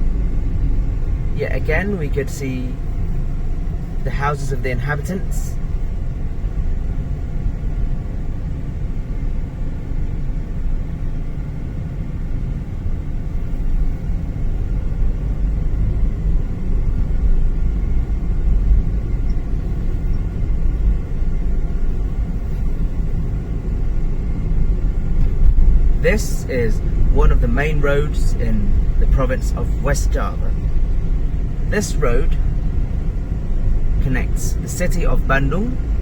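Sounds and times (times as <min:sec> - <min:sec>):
car engine and tyre noise: 0:00.0 - 0:36.0.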